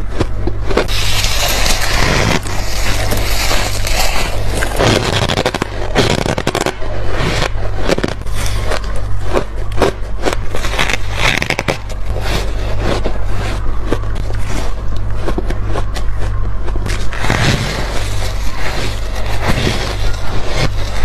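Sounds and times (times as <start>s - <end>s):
ice being chewed crunching: 0.0s - 21.0s
steady low hum: 0.0s - 21.0s
frost scraped by hand: 0.8s - 21.0s.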